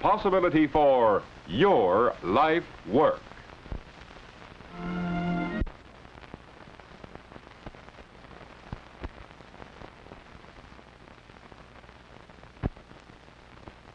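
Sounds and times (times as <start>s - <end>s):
crackles and pops: 0.0s - 13.9s
film soundtrack hiss: 0.0s - 13.9s.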